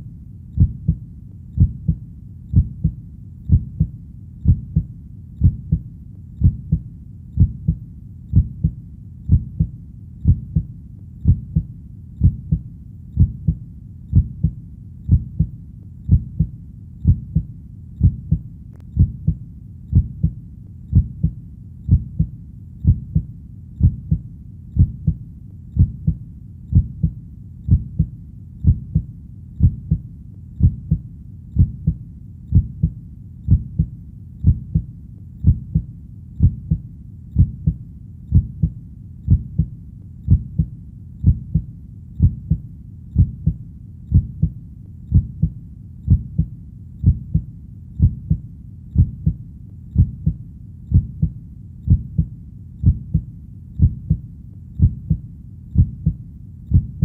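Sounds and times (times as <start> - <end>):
heartbeat double thump: 0.6 - 1.0, 1.6 - 5.8, 6.4 - 6.8, 7.4 - 12.6, 13.2 - 15.5, 16.1 - 18.4, 19.0 - 24.2, 24.8 - 25.2, 25.8 - 30.0, 30.6 - 31.0, 31.6 - 36.8, 37.4 - 39.7, 40.3 - 42.6, 43.2 - 48.4, 49.0 - 49.4, 50.0 - 54.2, 54.8 - 55.2, 55.8 - 57.0.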